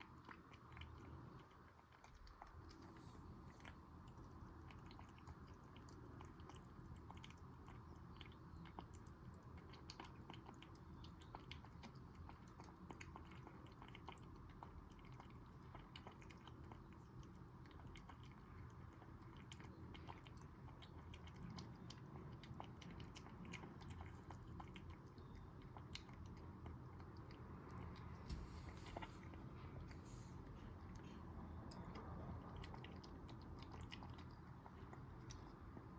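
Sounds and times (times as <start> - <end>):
puppy chewing kibble: 0.0 - 35.9.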